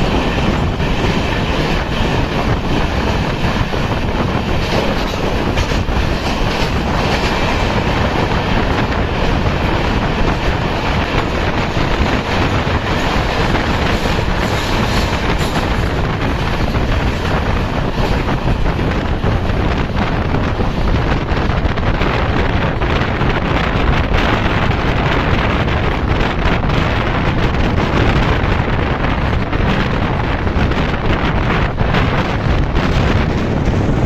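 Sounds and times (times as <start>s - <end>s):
moving train rumble: 0.0s - 34.0s
wind buffeting microphone: 0.0s - 34.0s.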